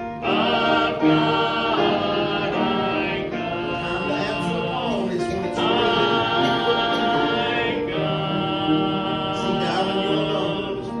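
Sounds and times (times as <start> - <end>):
voices singing slow hymn: 0.0 - 11.0.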